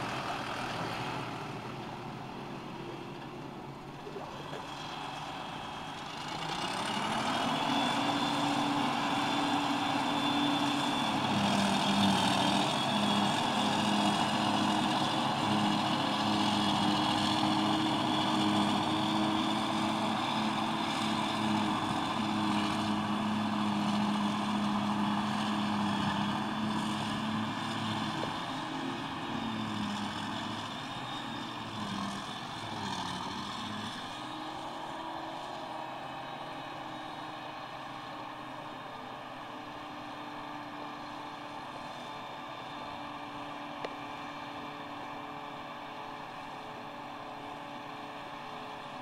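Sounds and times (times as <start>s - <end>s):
forage harvester engine drone: 0.0s - 49.0s.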